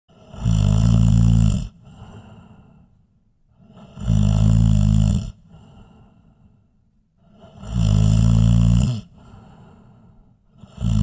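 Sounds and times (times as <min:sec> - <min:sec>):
person snoring: 0:00.1 - 0:02.9, 0:03.5 - 0:06.4, 0:07.2 - 0:11.0
quiet breath: 0:00.1 - 0:04.6, 0:05.2 - 0:11.0.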